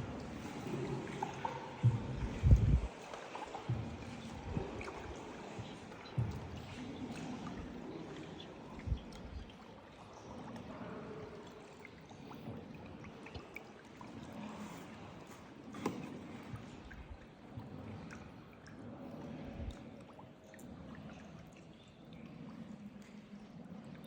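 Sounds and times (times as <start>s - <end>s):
water splashing around boat: 0.0s - 24.0s.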